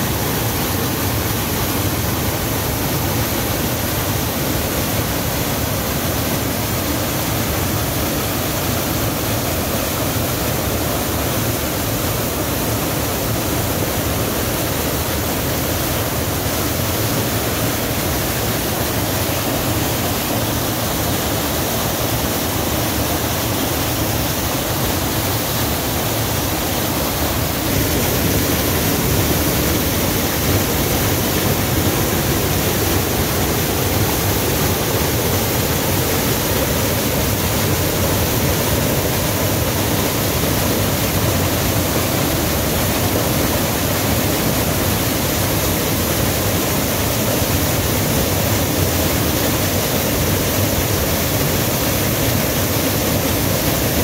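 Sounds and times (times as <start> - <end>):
waterfall splashing onto rocks: 0.0 - 54.0.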